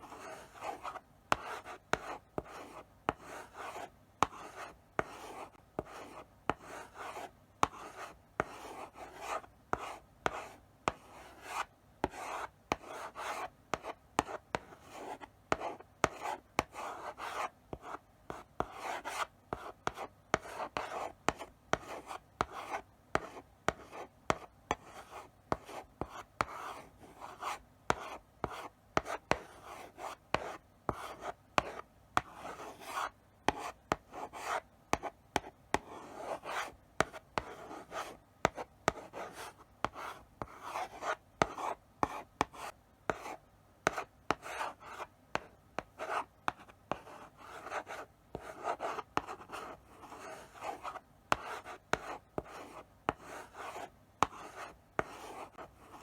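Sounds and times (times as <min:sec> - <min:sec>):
chalk writing on blackboard: 0:00.0 - 0:56.0.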